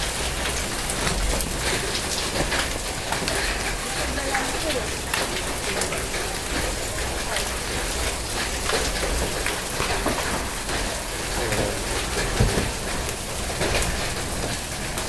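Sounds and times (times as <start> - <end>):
hailstones ticking on hard surfaces: 0.0 - 15.0
heavy rain hissing: 0.0 - 15.0.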